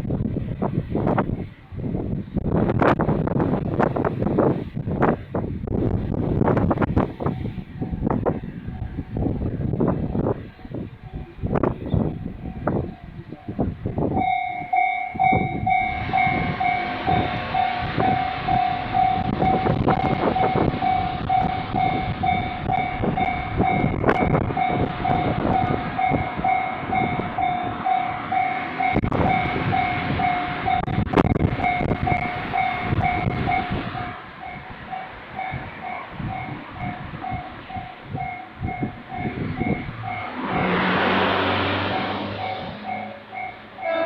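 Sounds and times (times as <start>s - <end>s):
level-crossing warning bell: 7.0s - 44.0s.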